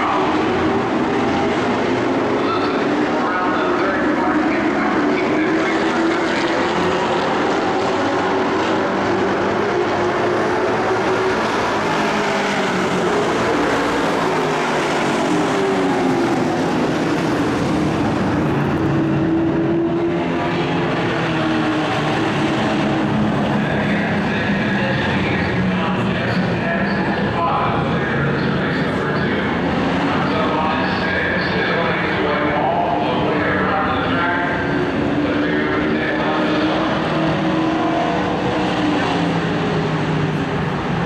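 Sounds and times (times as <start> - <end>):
race truck engines passing: 0.0 - 41.0.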